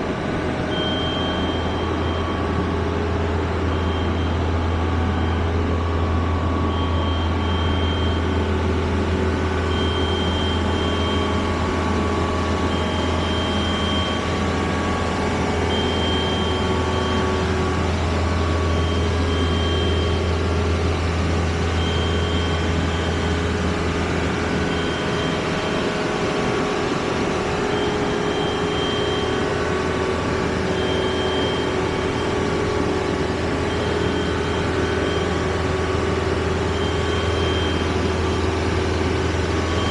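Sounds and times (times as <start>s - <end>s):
heavy engine running: 0.0s - 39.9s
high warning beep: 0.2s - 39.9s.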